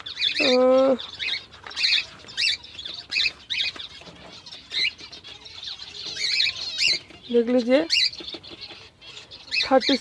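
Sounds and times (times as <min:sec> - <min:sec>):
small cage birds chirping: 0:00.0 - 0:10.0.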